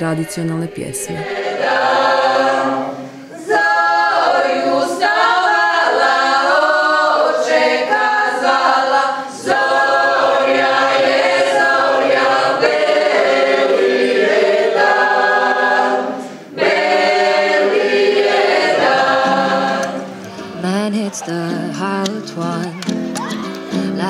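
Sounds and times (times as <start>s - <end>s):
mixed choir singing a cappella: 0.0s - 21.8s.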